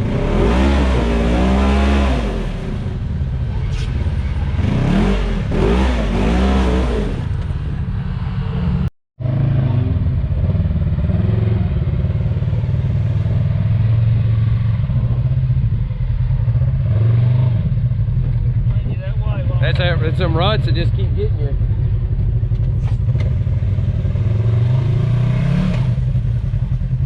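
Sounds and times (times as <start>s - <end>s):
utv engine revving: 0.0s - 8.6s, 9.2s - 27.0s.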